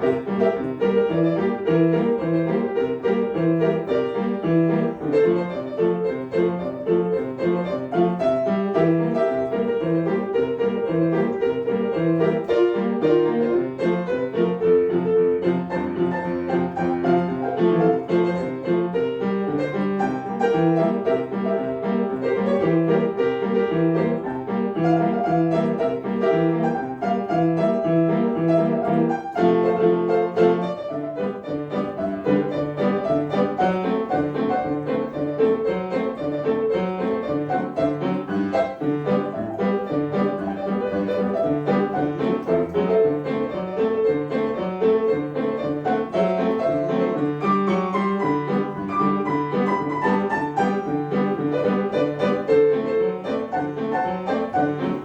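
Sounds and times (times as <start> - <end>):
piano playing a simple tune: 0.0 - 55.0.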